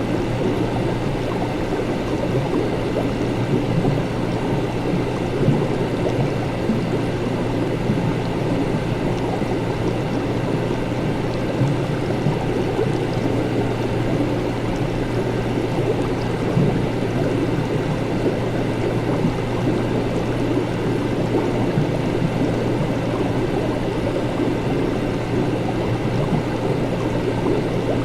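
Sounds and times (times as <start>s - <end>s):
constant low hum: 0.0s - 28.0s.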